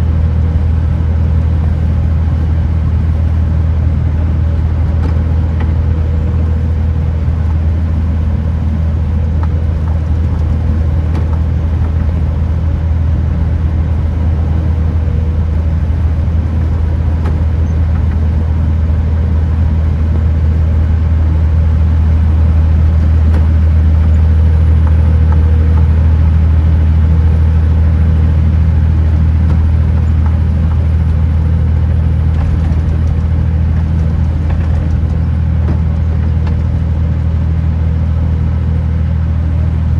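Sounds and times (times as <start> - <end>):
road noise: 0.0 - 39.9
truck diesel engine droning: 0.0 - 39.9.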